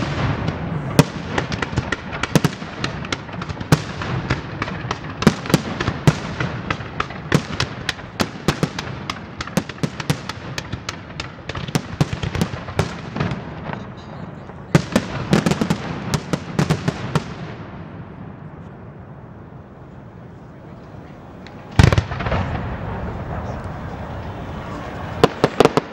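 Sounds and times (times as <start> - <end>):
continuous rumble: 0.0 - 25.9.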